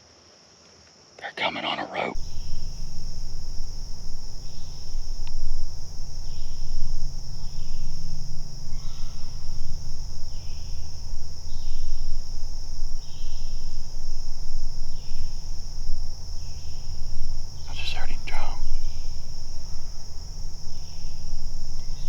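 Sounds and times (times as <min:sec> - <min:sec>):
insects droning in chorus: 0:00.0 - 0:22.0
steady low rumble: 0:02.1 - 0:22.0.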